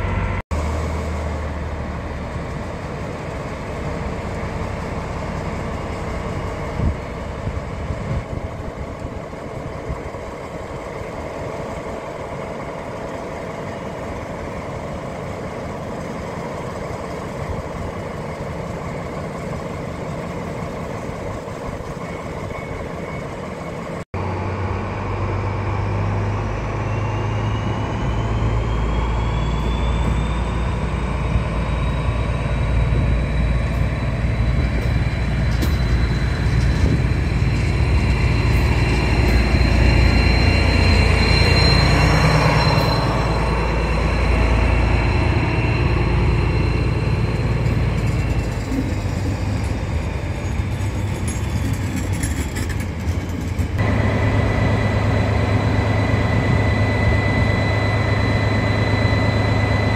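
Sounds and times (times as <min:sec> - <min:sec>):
diesel locomotives rumbling: 0:00.0 - 0:59.9
locomotive engine whine: 0:00.0 - 0:59.9.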